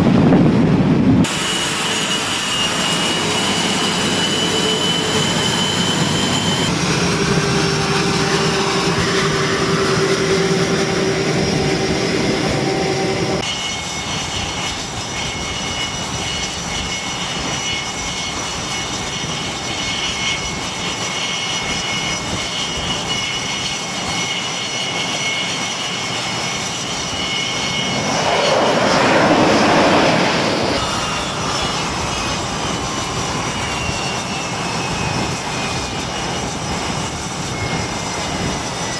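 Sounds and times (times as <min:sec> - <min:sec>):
jet engines whining and roaring: 0:00.0 - 0:38.9
loud jet rush: 0:00.0 - 0:38.9.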